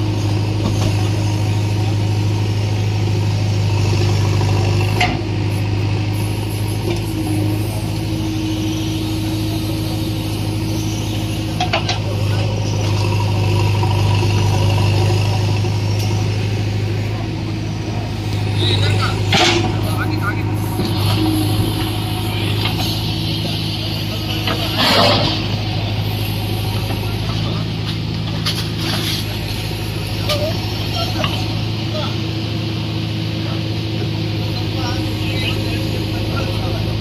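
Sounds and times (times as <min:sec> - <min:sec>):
diesel engine running: 0:00.0 - 0:37.0
higher steady hum: 0:06.0 - 0:37.0.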